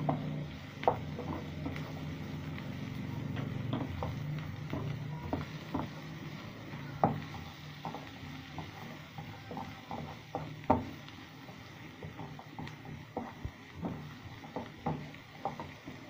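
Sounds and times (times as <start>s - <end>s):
spatula scraping frying pan: 0.0s - 16.0s
vegetables sizzling: 0.0s - 16.0s.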